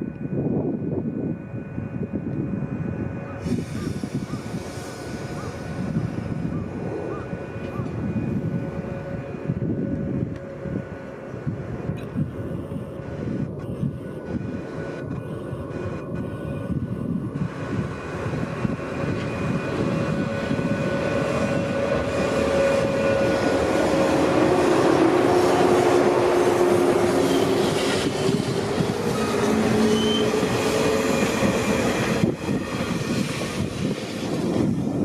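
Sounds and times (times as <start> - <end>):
electric train running: 0.0 - 35.0
whining tones: 1.0 - 35.0.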